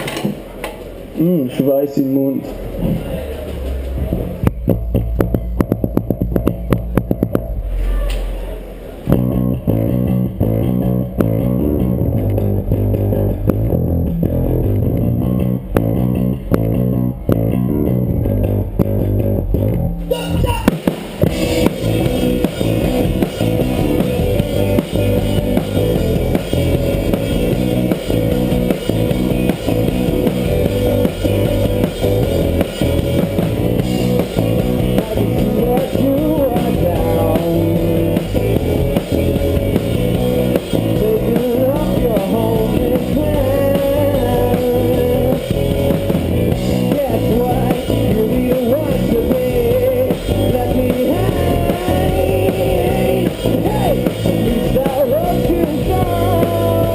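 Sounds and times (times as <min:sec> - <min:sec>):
rock band playing: 0:02.5 - 0:56.9.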